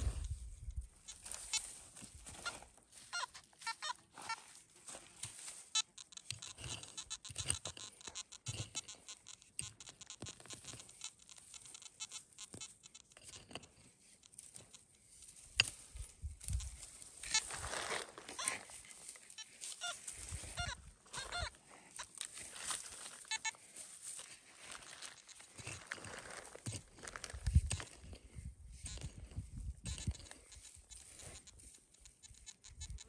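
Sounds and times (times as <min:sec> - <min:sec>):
earth scraping: 0:00.0 - 0:33.0.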